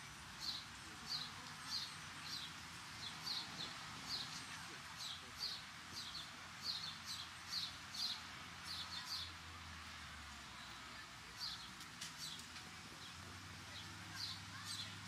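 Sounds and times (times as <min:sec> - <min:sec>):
city traffic hum: 0:00.0 - 0:15.0.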